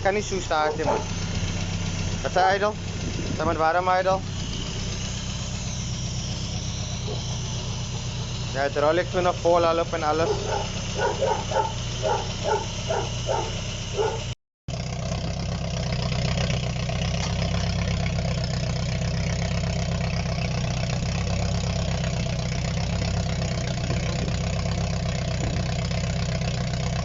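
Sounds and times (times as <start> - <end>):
car engine idling fast: 0.0 - 27.0.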